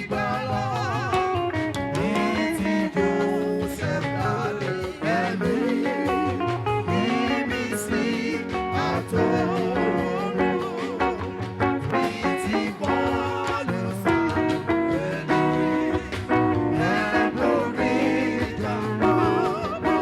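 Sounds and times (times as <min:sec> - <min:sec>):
person singing with a band: 0:00.0 - 0:20.0.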